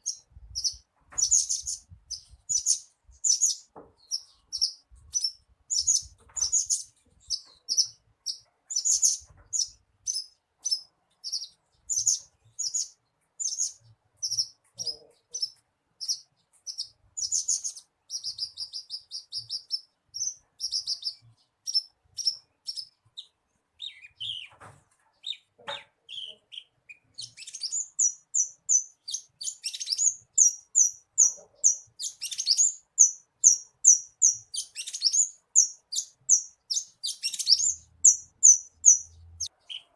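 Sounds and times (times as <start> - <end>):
bird singing high chirps: 0.0 - 24.6, 25.2 - 39.9.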